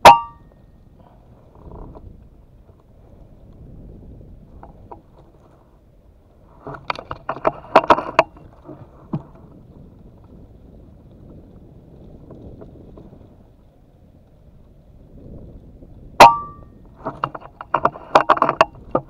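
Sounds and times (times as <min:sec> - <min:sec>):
faint wind: 0:00.0 - 0:19.0.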